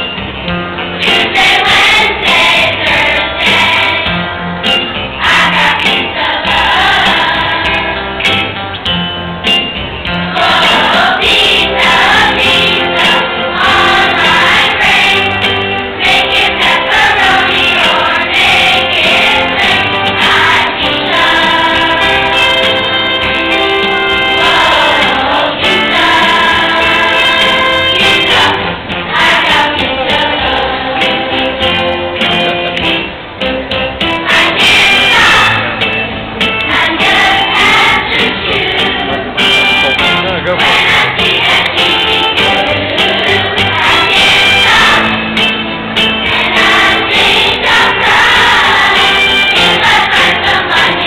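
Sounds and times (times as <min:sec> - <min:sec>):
instrumental accompaniment: 0:00.0 - 0:51.0
children singing in unison: 0:01.0 - 0:04.2, 0:05.2 - 0:08.0, 0:10.3 - 0:32.0, 0:34.1 - 0:35.8, 0:36.6 - 0:39.6, 0:40.6 - 0:51.0.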